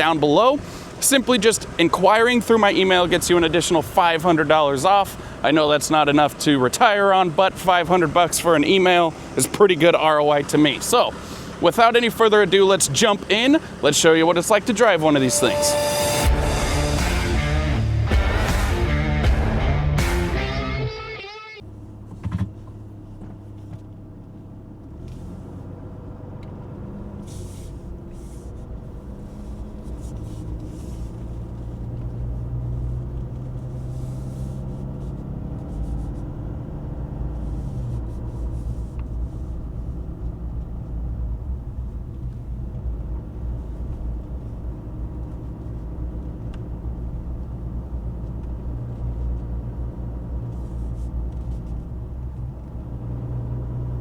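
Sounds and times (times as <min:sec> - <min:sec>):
diesel engine accelerating: 0:00.0 - 0:54.0.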